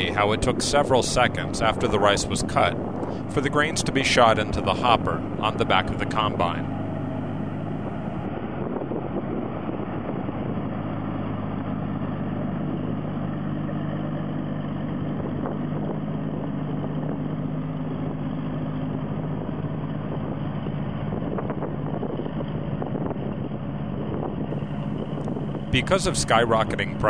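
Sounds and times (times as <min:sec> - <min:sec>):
combine harvester engine running: 0:00.0 - 0:27.0.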